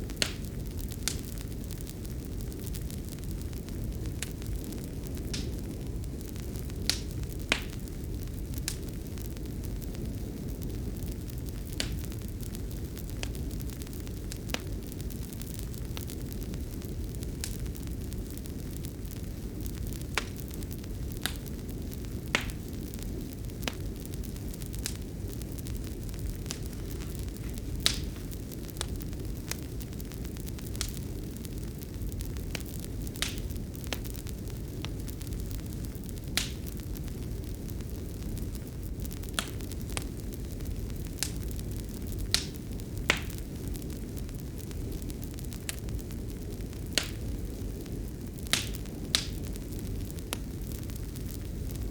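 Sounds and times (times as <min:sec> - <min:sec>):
fireplace fire crackling: 0:00.0 - 0:51.9.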